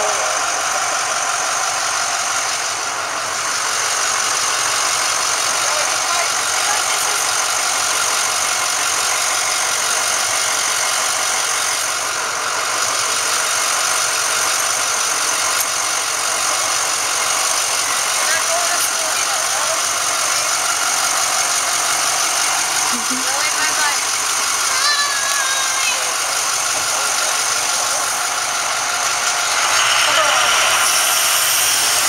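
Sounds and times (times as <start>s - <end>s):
bus engine idling: 0.0s - 32.0s.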